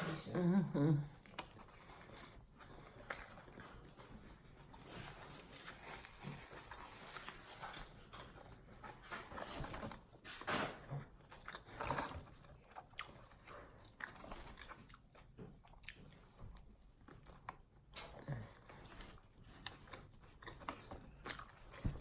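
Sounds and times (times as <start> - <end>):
chewing and biting sandwich: 1.1 - 22.0.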